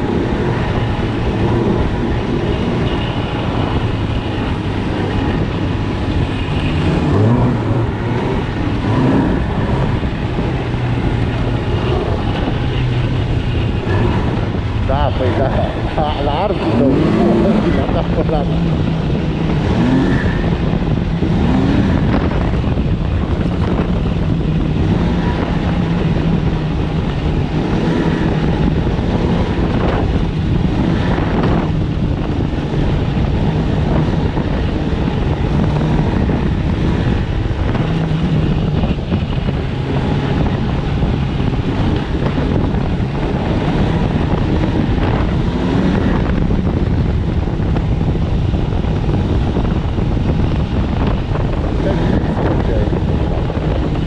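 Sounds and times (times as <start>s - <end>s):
snowmobile engine running: 0.0s - 54.0s
wind noise on microphone: 0.0s - 54.0s.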